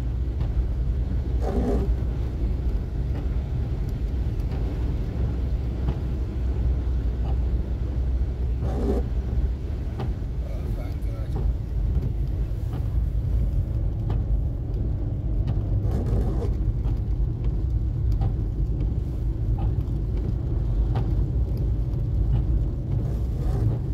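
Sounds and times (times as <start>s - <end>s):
car engine and tyres rumbling: 0.0s - 23.9s.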